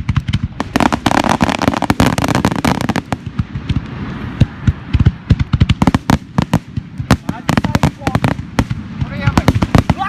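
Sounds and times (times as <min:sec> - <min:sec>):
fireworks booming: 0:00.0 - 0:10.0
fireworks crackling: 0:00.0 - 0:10.0.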